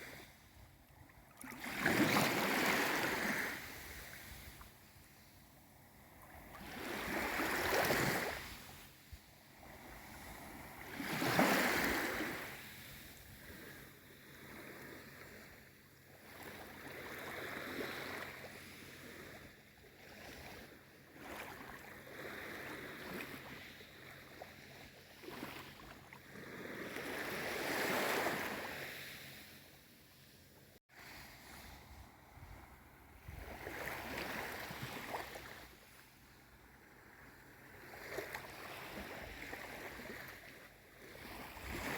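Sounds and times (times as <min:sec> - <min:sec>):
gentle sea waves washing: 0:00.0 - 0:41.9.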